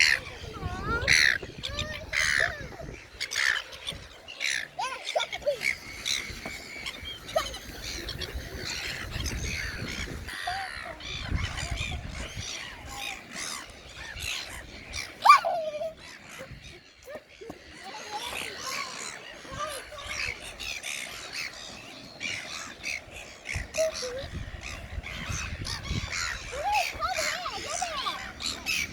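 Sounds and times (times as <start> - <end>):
birds squawking: 0.0 - 28.9.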